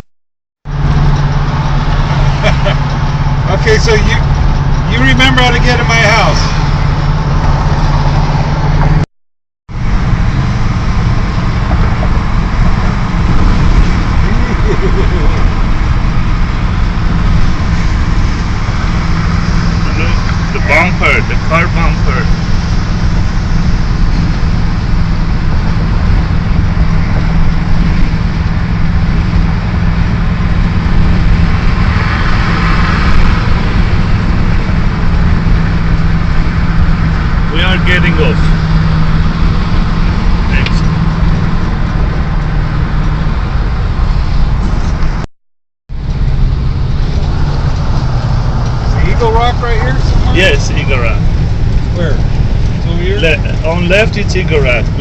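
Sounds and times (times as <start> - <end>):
car interior road and engine rumble: 0.7 - 9.0, 9.7 - 45.3, 45.9 - 55.0.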